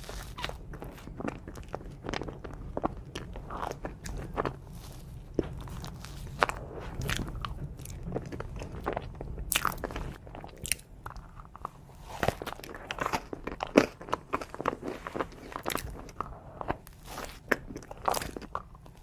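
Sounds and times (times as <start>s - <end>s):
crunching bites of dessert: 0.0s - 19.0s
soft chewing: 0.0s - 19.0s.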